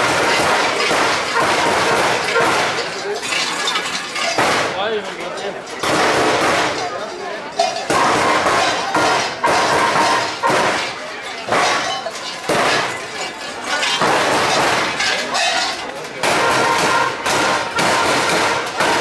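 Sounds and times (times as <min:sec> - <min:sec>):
large cowbells clanging: 0:00.0 - 0:19.0.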